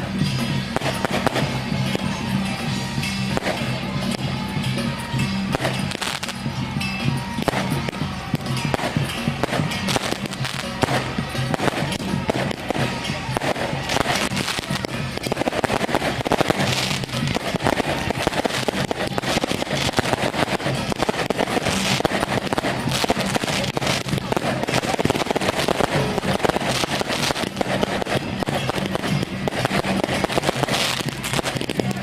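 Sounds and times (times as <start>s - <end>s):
firecrackers crackling: 0.0s - 32.0s
music playing: 0.0s - 32.0s.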